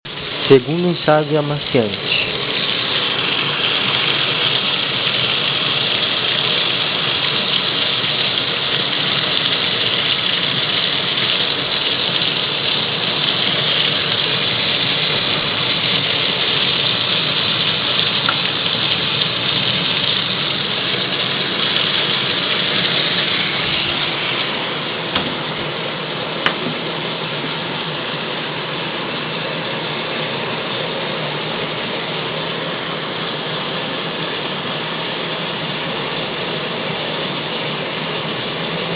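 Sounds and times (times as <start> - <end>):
washing machine rushing: 0.1 - 38.9.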